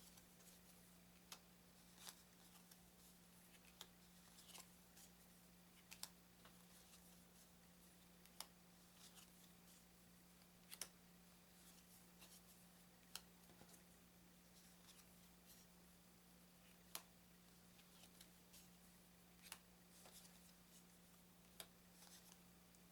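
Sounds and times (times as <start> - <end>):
low electrical hum: 0.0 - 22.9.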